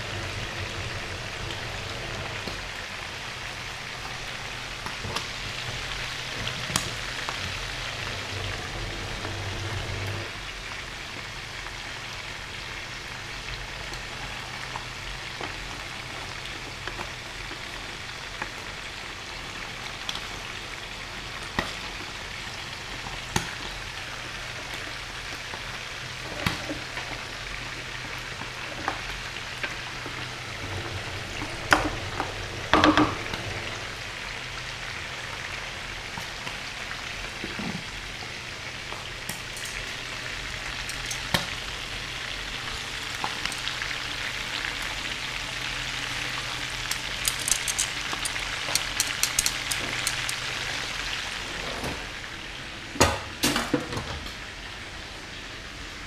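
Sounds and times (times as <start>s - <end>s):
food sizzling in pans: 0.0s - 52.8s.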